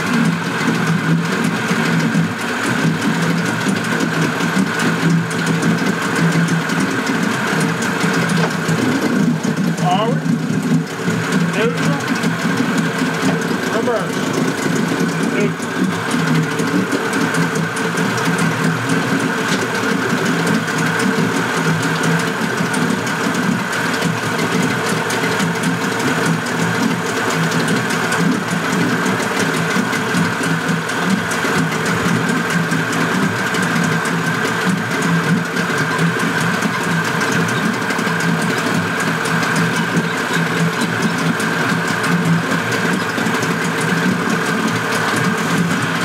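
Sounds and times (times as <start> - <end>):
outboard motor running: 0.0 - 46.0.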